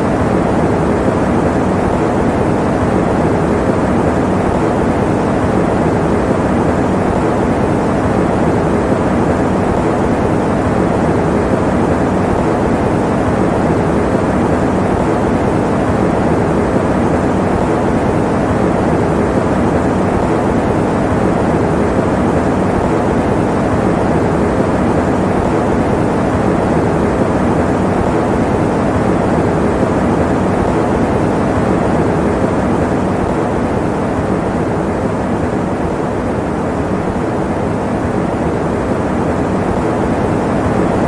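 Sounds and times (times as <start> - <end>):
electric fan running: 0.0 - 41.0.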